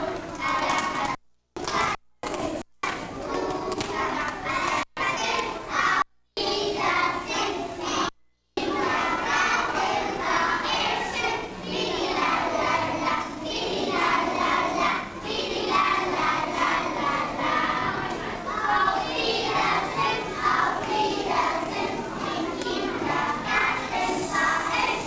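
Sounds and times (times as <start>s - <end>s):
children singing together: 0.0s - 25.0s.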